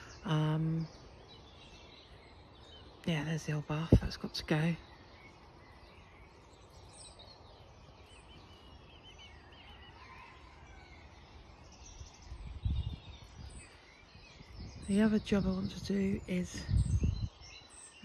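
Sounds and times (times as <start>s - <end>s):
faint birdsong chirps: 0.0s - 18.0s.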